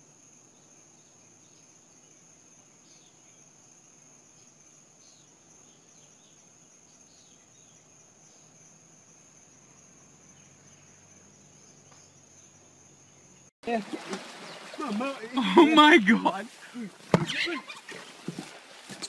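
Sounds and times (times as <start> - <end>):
high-pitched insect trill: 0.0 - 16.5.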